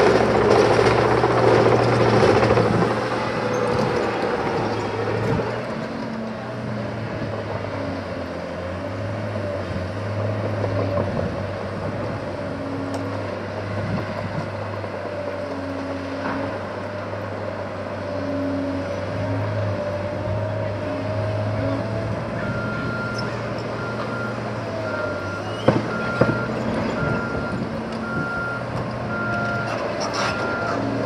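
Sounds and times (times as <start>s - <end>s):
diesel engines droning: 0.0s - 31.0s.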